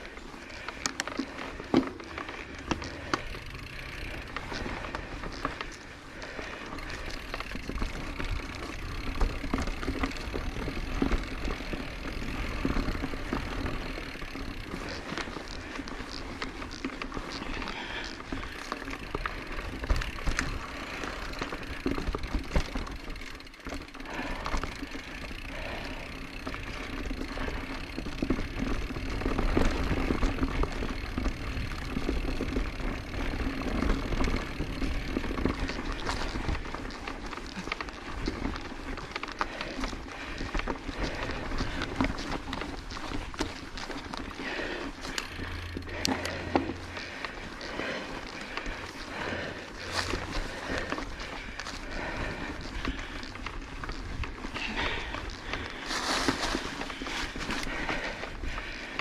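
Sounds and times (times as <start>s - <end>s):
bike clicks and rattles: 0.0s - 59.0s
bike tyres on dirt trail: 0.0s - 59.0s.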